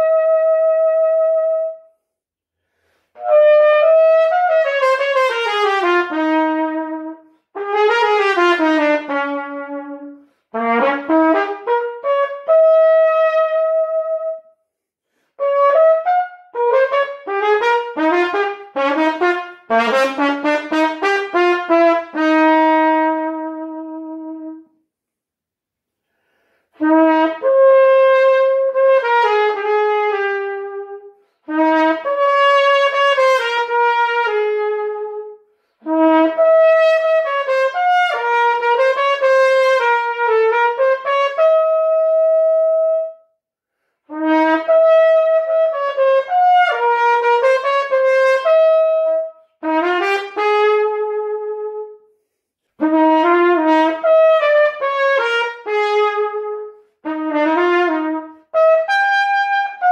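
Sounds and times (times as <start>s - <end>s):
trumpet solo: 0.0s - 2.0s, 3.1s - 24.8s, 26.7s - 43.4s, 44.0s - 59.9s.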